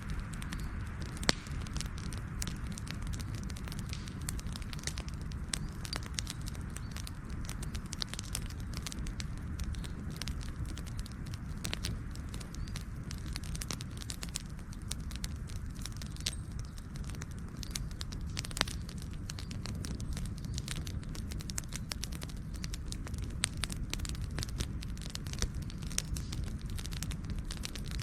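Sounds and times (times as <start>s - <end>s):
campfire flames rumbling: 0.0s - 28.0s
fire crackling and popping: 0.0s - 28.0s.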